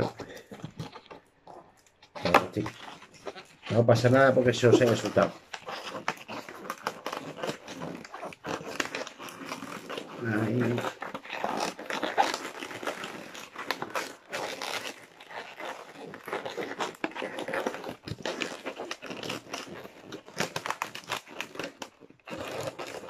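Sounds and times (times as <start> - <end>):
balloons rubbing and crackling: 0.0 - 23.0.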